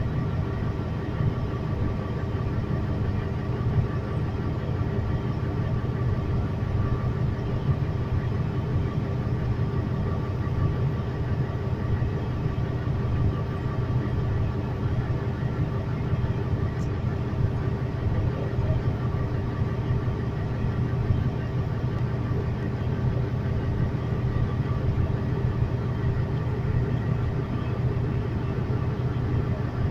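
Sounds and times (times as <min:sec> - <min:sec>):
diesel truck engine idling: 0:00.0 - 0:29.9.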